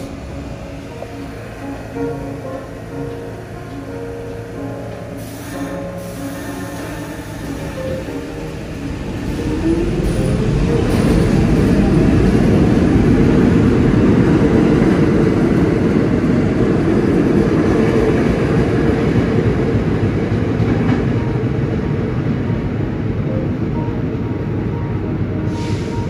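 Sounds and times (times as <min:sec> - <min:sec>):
subway train rumbling on rails: 0:00.0 - 0:26.0.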